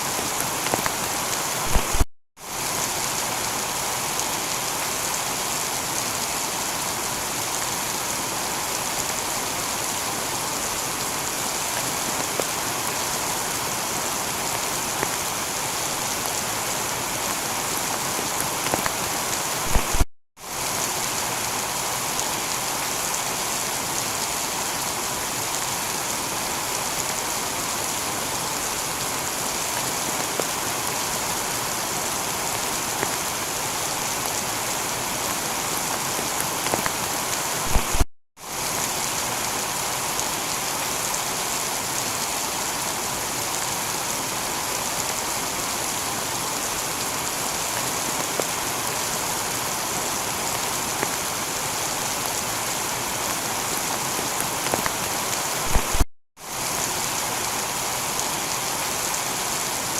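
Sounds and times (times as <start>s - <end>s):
heavy rain on a tiled roof: 0.0s - 59.9s
loud raindrops: 0.0s - 59.9s.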